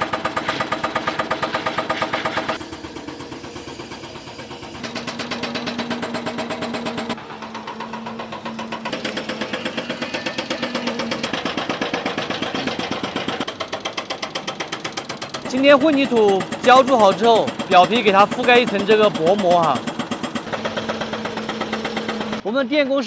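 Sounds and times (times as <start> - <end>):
engine chugging: 0.0 - 23.0.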